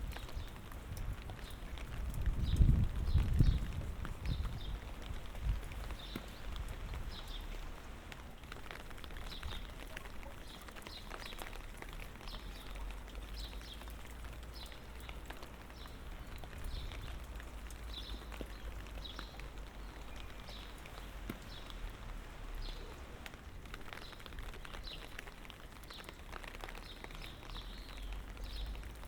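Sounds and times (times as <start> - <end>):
footsteps on wet pavement: 0.0 - 29.0
light rain pattering: 0.0 - 29.0.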